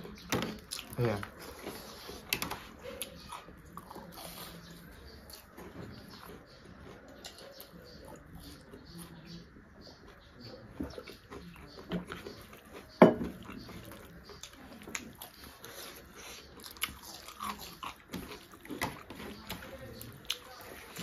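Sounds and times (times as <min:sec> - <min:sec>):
fingers squishing in food: 0:00.0 - 0:21.0
people chewing and lip-smacking: 0:00.0 - 0:21.0.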